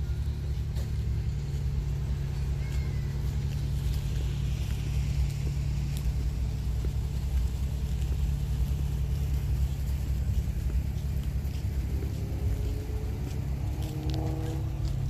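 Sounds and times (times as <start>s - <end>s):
faint constant hum: 0.0s - 14.0s
low outdoor rumble: 0.0s - 15.0s.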